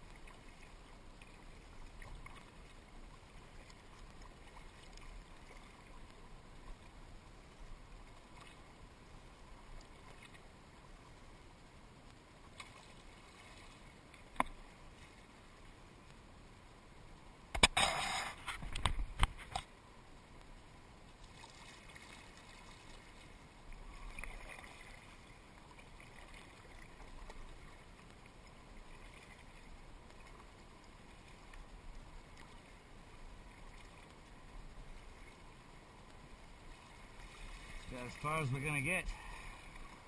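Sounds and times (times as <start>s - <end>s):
creek water trickling: 0.0s - 40.0s.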